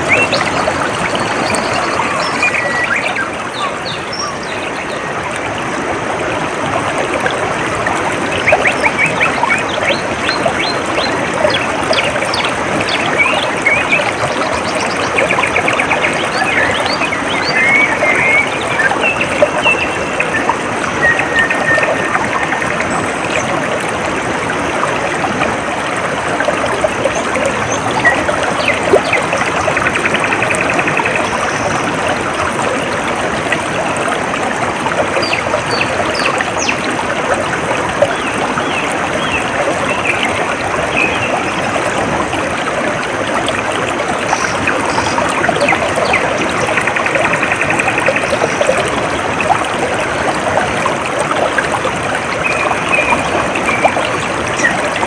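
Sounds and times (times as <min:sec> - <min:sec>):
stream trickling and babbling: 0:00.0 - 0:55.0.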